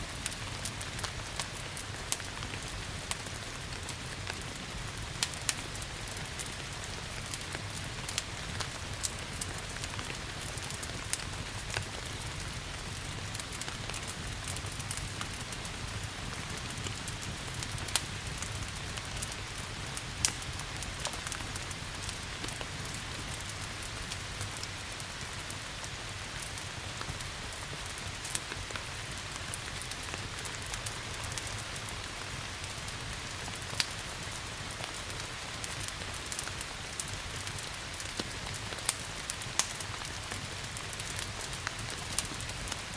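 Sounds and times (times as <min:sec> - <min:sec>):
burning logs popping and snapping: 0:00.2 - 0:23.6, 0:27.8 - 0:31.8, 0:33.4 - 0:42.9.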